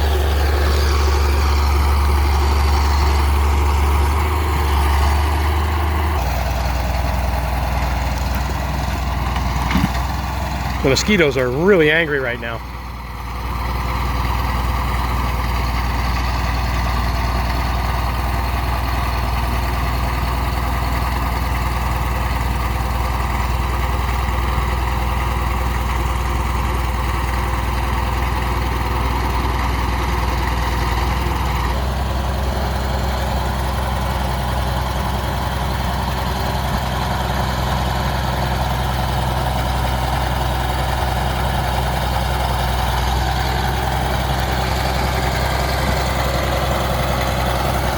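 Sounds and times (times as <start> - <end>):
bulldozer diesel engine droning: 0.0 - 47.9.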